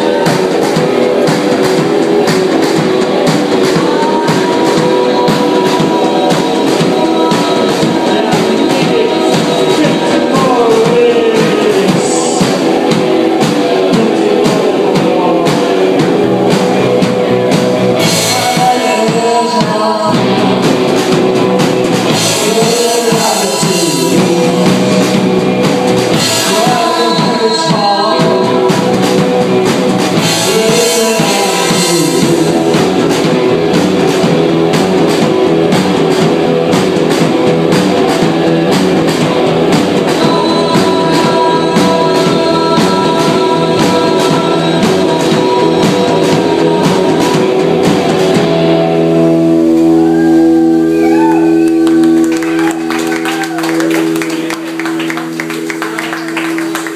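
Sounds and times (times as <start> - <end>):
person singing: 0.0 - 56.9
rock band playing live: 0.0 - 56.9.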